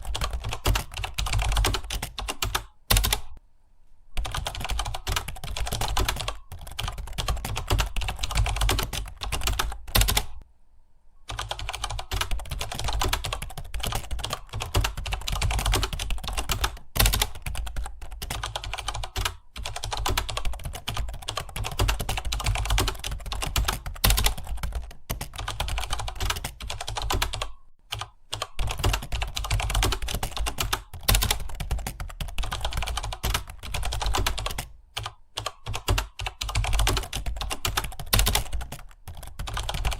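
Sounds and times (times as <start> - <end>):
fast typing on keyboard: 0.0 - 3.4, 4.2 - 10.4, 11.3 - 39.9.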